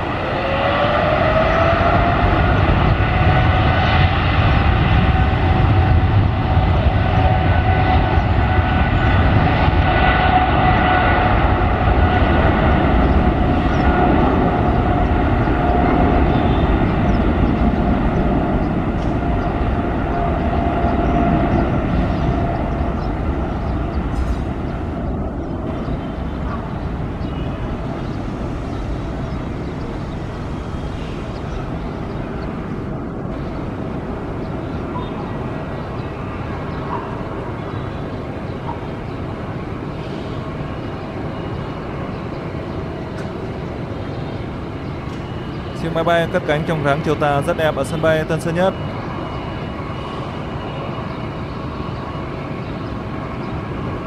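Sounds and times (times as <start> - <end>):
jet engines rumbling at takeoff: 0.0 - 54.0.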